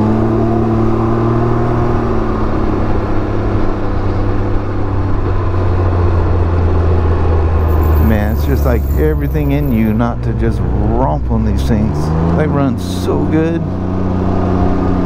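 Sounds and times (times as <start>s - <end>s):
engine pulling away: 0.0s - 15.0s.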